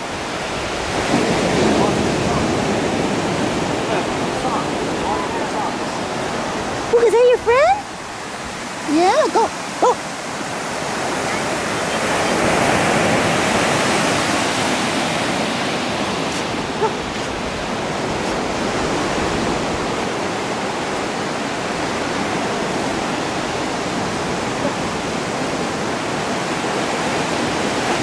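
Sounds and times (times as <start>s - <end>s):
ocean surf breaking: 0.0s - 28.0s.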